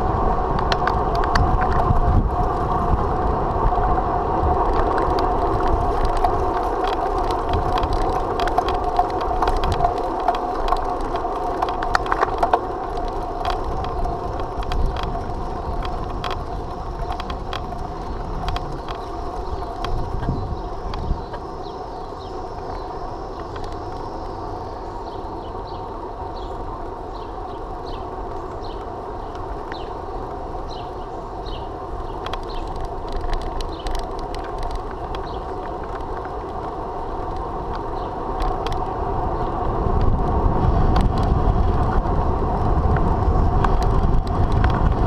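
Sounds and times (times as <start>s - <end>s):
bicycle tyres and drivetrain hum: 0.0s - 45.0s
low rumble: 0.0s - 45.0s.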